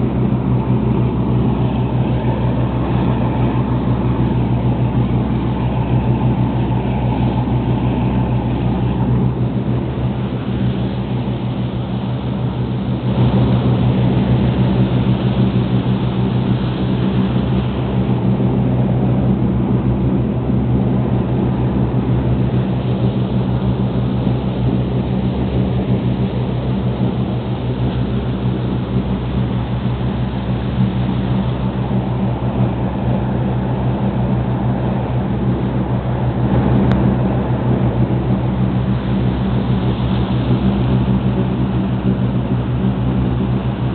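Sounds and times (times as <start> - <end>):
boat engine drone: 0.0 - 43.9
water rushing: 0.0 - 43.9
wind: 0.0 - 43.9.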